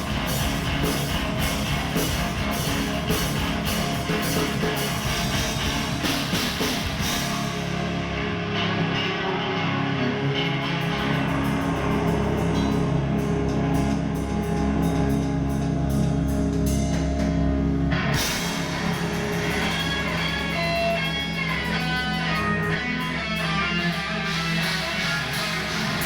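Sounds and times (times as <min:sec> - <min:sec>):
guitar melody: 0:00.0 - 0:26.0
rock music with guitar and drums: 0:00.0 - 0:26.0.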